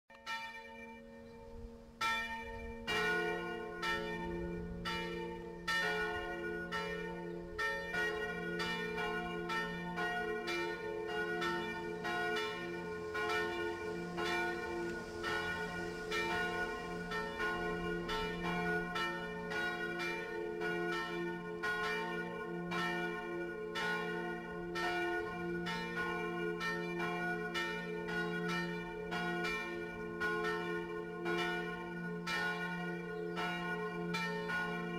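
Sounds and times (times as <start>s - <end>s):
church bell ringing: 0.1s - 34.9s.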